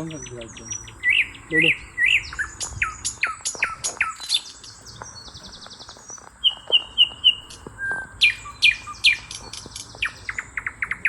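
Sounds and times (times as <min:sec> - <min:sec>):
buzzy bird trill: 0:00.0 - 0:11.0
small birds chirping: 0:00.0 - 0:11.0.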